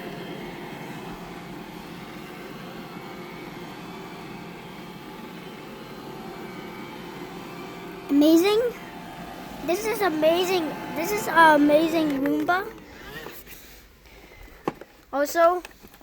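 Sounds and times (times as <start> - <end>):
robot vacuum whirring: 0.0 - 13.9.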